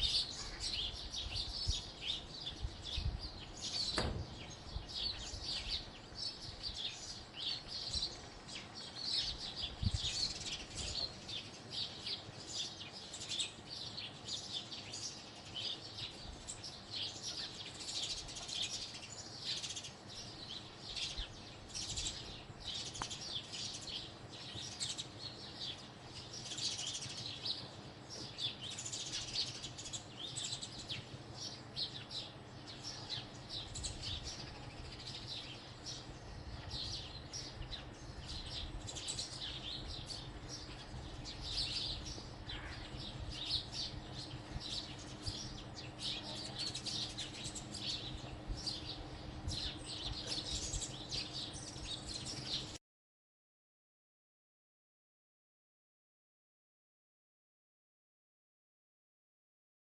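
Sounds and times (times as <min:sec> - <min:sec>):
sparrows chirping: 0:00.0 - 0:52.8.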